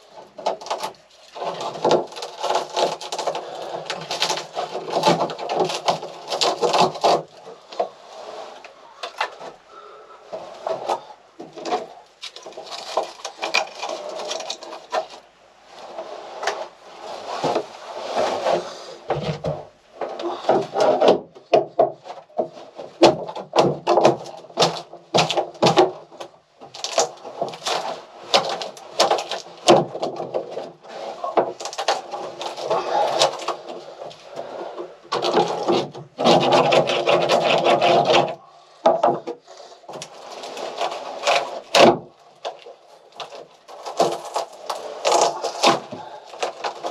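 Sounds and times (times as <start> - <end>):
wood scraping and cracking: 0.0 - 46.9.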